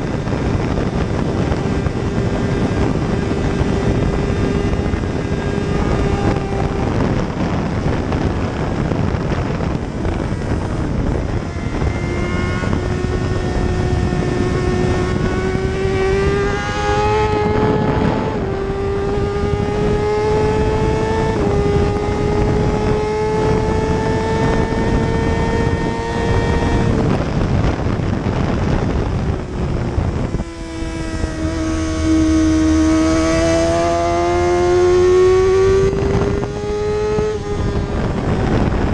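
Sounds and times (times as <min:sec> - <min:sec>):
motorcycle engine accelerating: 0:00.0 - 0:38.9
wind rushing: 0:00.0 - 0:38.9.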